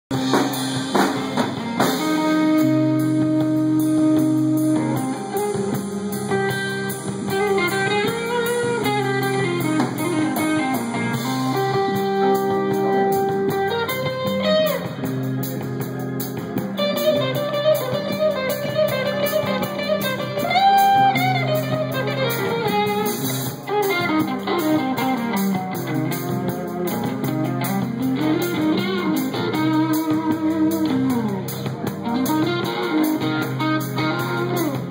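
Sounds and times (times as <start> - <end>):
drum kit: 0.1 - 34.9
electric guitar lead bending notes: 0.1 - 34.9
live band playing: 0.1 - 34.9.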